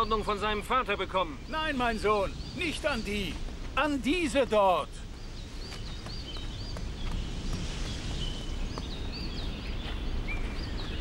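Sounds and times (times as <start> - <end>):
small birds chirping: 0.0 - 11.0
steady background hiss: 0.0 - 11.0.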